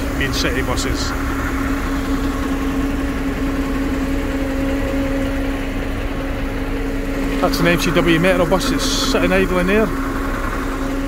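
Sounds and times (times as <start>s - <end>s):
diesel bus engine idling: 0.0s - 11.0s.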